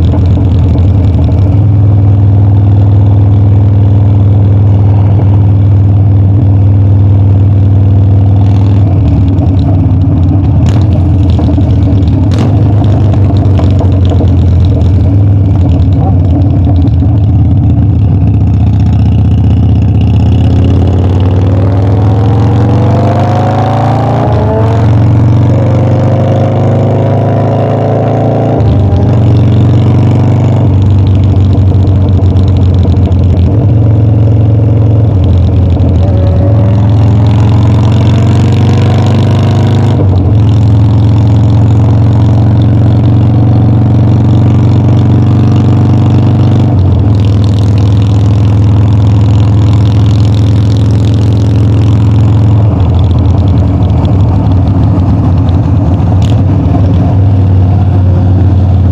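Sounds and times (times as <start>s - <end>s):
motorcycle engine revving through gears: 0.0s - 58.9s.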